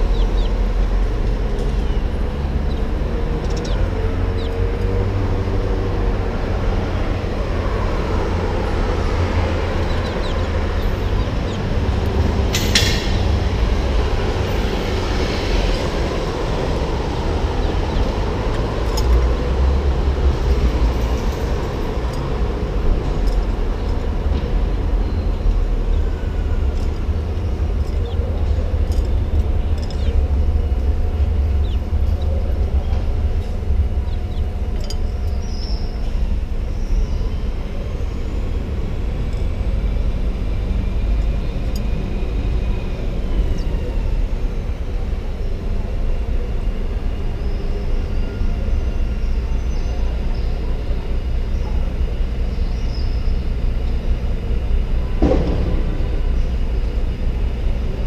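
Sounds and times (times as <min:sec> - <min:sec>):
city street traffic rumble: 0:00.0 - 0:58.0.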